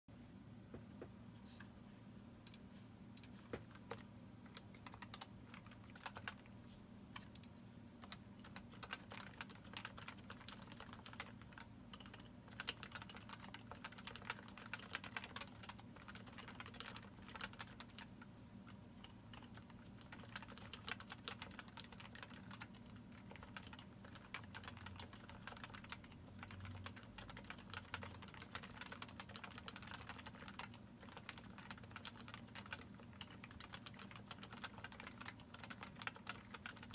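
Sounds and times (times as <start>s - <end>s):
keyboard typing: 3.2s - 6.5s, 7.1s - 36.9s.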